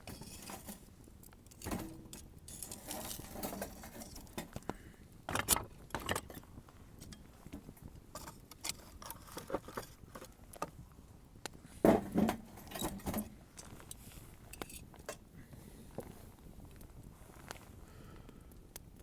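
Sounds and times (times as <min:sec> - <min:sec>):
wood fire crackling: 0:00.0 - 0:11.8, 0:13.4 - 0:19.0.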